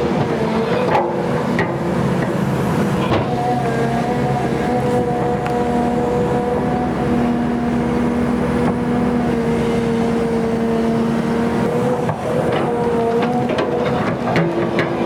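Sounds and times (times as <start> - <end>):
excavator diesel engine running: 0.0 - 15.0
steady engine whine: 0.0 - 15.0.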